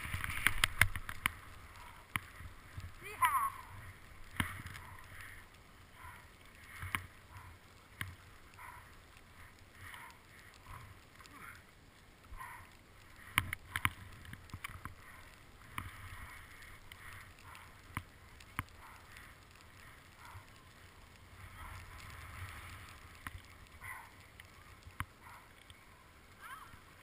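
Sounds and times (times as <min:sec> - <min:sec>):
skis scraping over snow: 0:00.0 - 0:11.2, 0:12.4 - 0:27.0.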